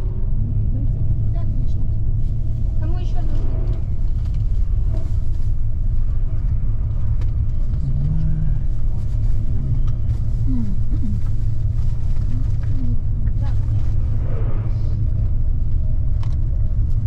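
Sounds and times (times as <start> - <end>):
coach engine and tyres rumbling: 0.0 - 17.0.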